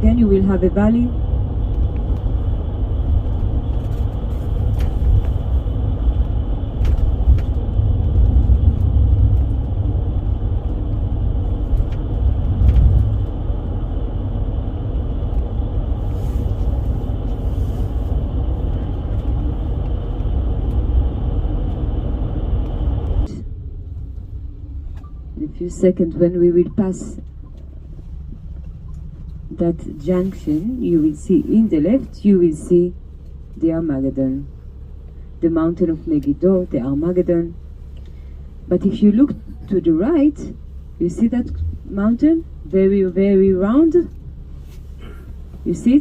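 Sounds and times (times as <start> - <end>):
engine and road rumble in cabin: 0.0 - 46.0.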